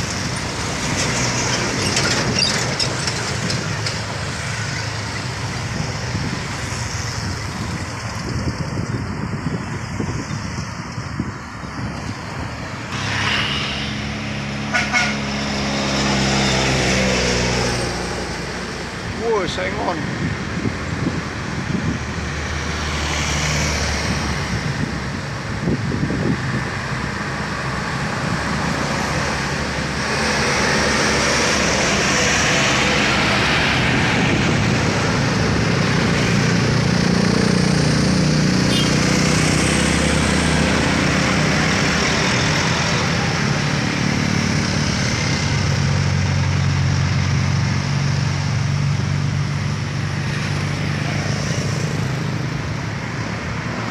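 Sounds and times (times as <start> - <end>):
road noise: 0.0 - 53.9
truck diesel engine running hard: 0.0 - 53.9.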